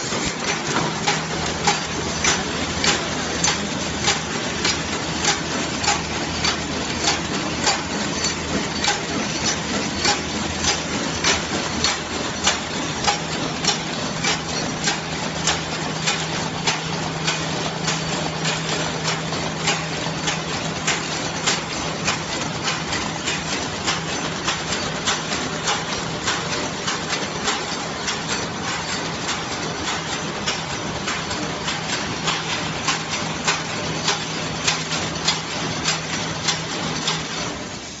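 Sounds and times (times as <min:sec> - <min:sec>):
wrapping machine humming and clacking: 0:00.0 - 0:38.0.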